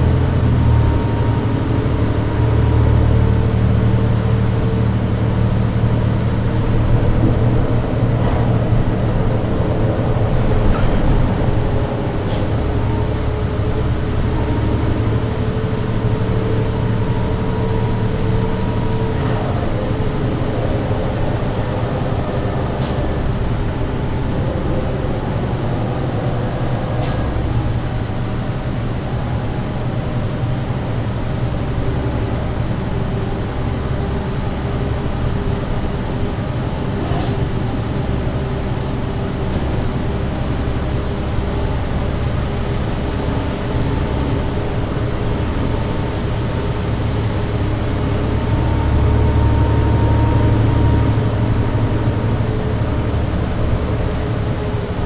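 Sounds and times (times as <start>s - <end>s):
bus diesel engine droning: 0.0s - 55.0s
road noise: 0.0s - 55.0s.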